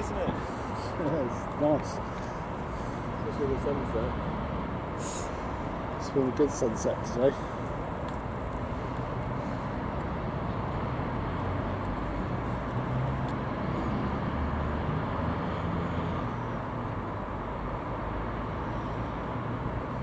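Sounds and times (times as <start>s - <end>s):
distant vehicles rumbling: 0.0s - 20.0s.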